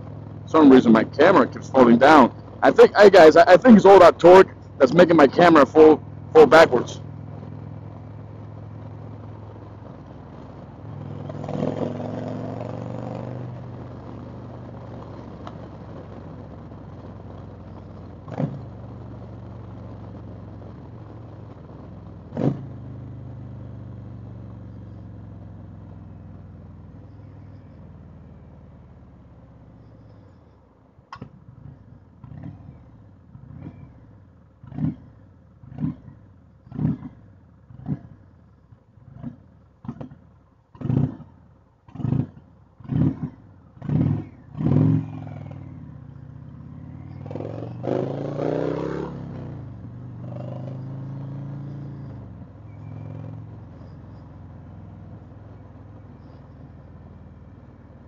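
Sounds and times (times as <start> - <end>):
motorcycle engine running: 0.0 - 30.5, 31.2 - 58.0.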